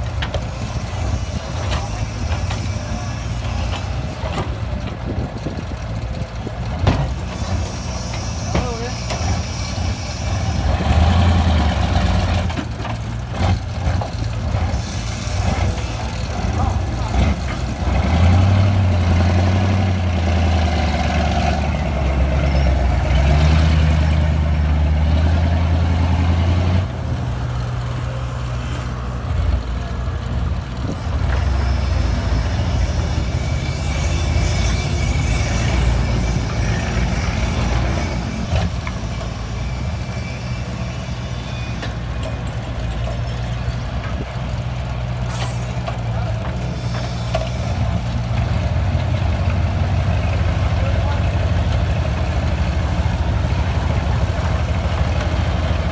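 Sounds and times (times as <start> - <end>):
diesel truck engine under load: 0.0 - 55.9.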